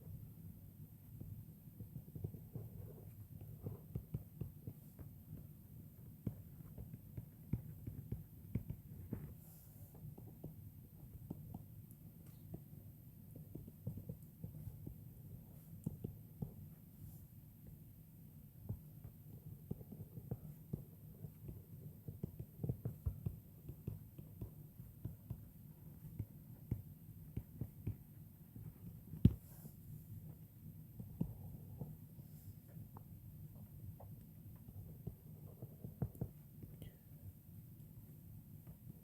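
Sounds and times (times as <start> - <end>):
low steady hum: 0.0 - 39.0
pen tapping while writing: 1.1 - 17.8, 18.6 - 30.4, 31.0 - 39.0.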